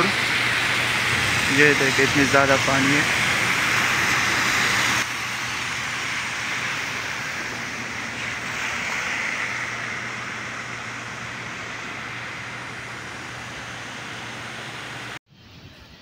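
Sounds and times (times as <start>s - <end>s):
car tyres hissing through water: 0.0s - 14.1s
steady traffic noise: 0.0s - 15.2s.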